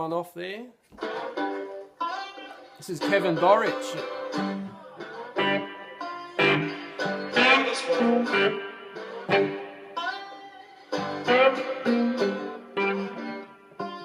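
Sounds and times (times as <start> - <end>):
slide guitar blues riff: 1.0 - 14.0.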